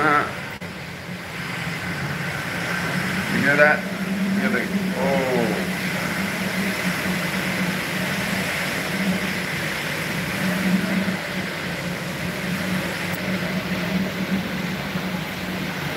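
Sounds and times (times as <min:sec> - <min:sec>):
heavy rain and wind: 0:00.0 - 0:15.9
low hum: 0:00.0 - 0:15.9.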